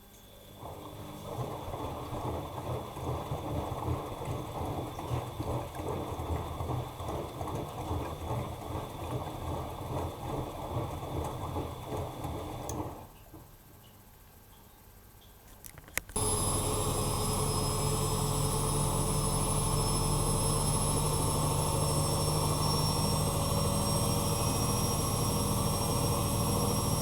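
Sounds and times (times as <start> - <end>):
faint motor whine: 0.0 - 27.0
water and laundry churning: 0.6 - 13.2, 16.2 - 27.0.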